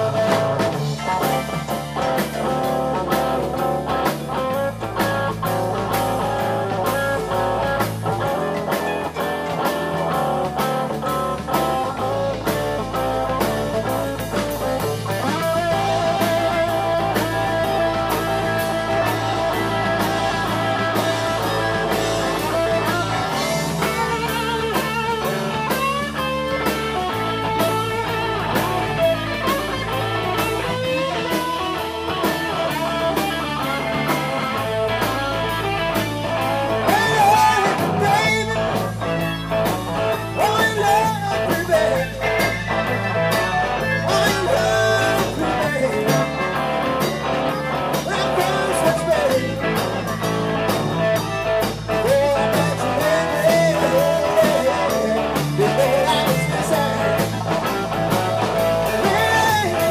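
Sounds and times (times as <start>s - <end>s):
blues band playing: 0.0s - 59.9s.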